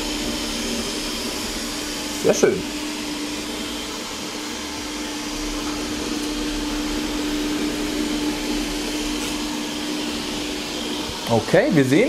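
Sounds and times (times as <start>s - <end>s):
robot vacuum cleaner whirring: 0.0s - 12.0s.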